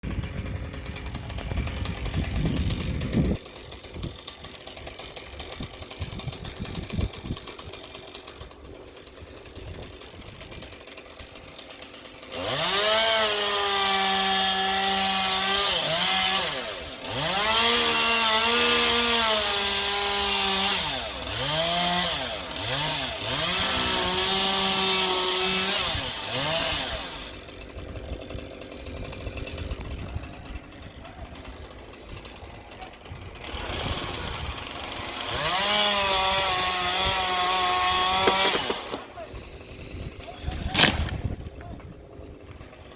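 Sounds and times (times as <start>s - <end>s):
chainsaw revving: 0.0s - 42.9s.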